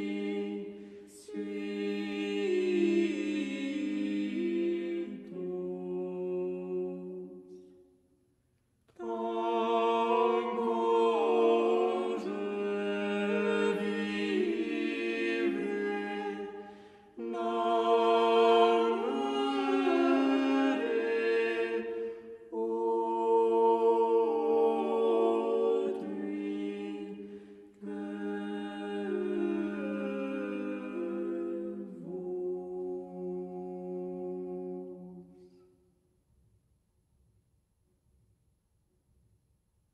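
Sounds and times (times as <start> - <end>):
unaccompanied choir singing: 0.0 - 7.6, 9.0 - 35.5.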